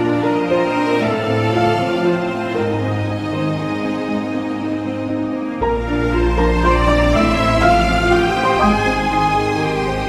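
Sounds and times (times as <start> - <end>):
calm slow instrumental music: 0.0 - 10.0.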